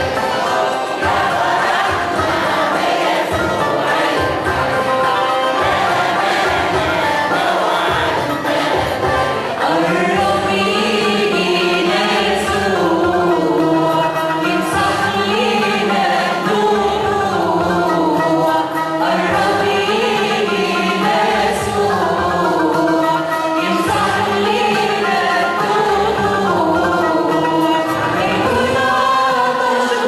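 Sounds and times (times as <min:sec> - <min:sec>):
church choir singing a hymn: 0:00.0 - 0:30.0.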